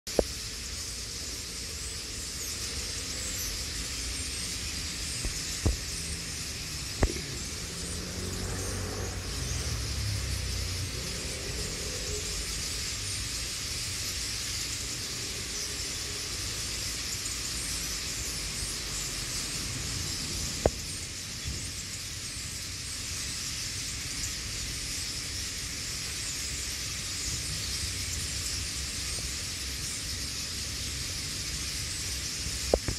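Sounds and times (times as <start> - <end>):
flock of starlings chattering: 0.1 - 32.9.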